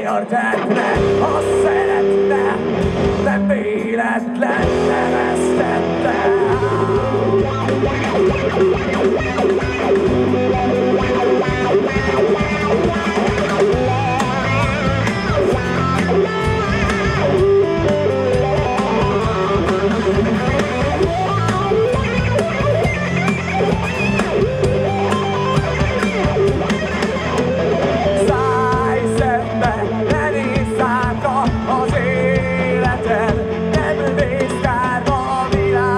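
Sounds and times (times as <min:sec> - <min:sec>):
electric guitar lead: 0:00.0 - 0:35.9
live rock band: 0:00.0 - 0:35.9.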